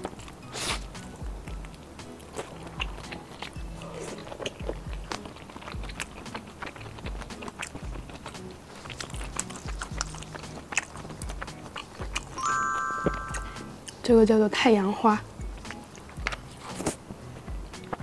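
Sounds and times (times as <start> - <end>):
crunchy chewing: 0.0 - 12.4, 15.4 - 18.0
soft background music: 0.0 - 18.0.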